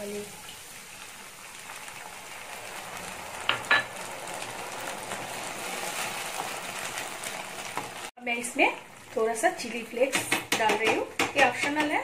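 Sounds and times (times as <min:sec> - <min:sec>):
sauce sizzling in a pan: 0:00.0 - 0:10.1.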